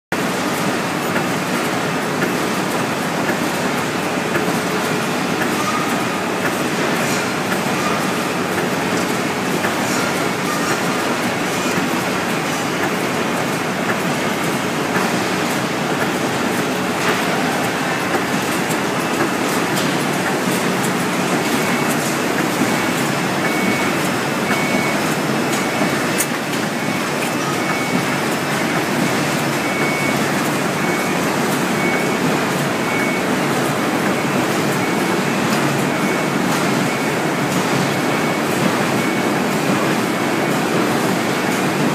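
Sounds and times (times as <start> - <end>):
printing machine running: 0.2 - 41.9.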